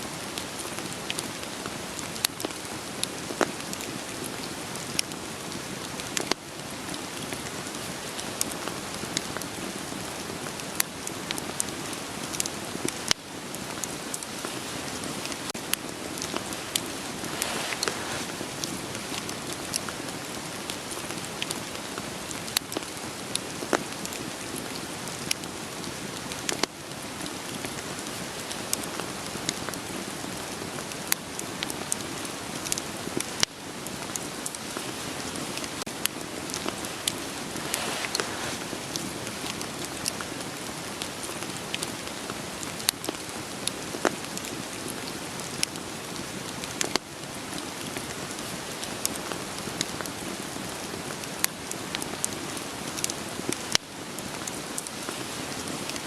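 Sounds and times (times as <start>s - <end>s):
rain hiss: 0.0s - 56.0s
wood fire crackling: 0.2s - 56.0s.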